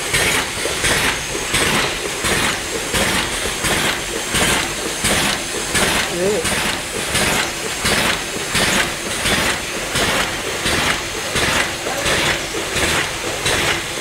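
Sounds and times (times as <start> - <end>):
packing machine din: 0.0 - 14.0.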